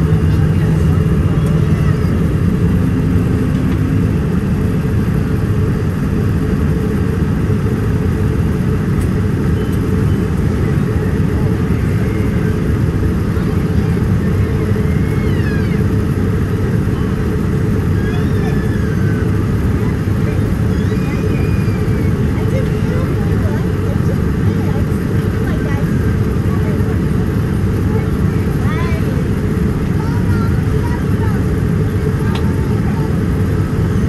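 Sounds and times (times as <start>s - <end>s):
low vehicle rumble: 0.0s - 34.0s.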